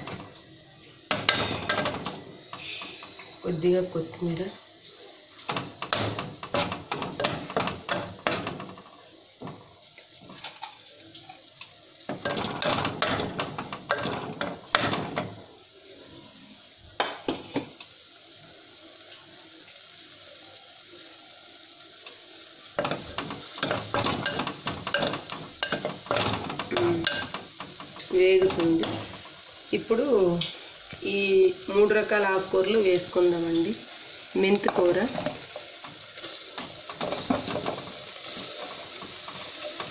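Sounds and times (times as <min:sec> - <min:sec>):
spices sizzling in hot fat: 0:00.0 - 0:39.9.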